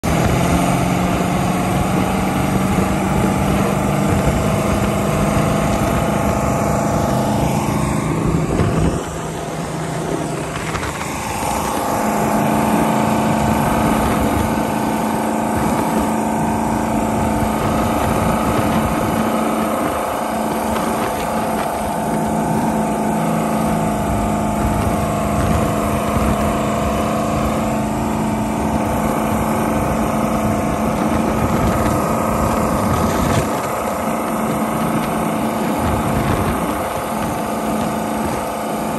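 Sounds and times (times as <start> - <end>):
boat engine running: 0.0 - 38.9
rush of wind and water: 0.0 - 38.9.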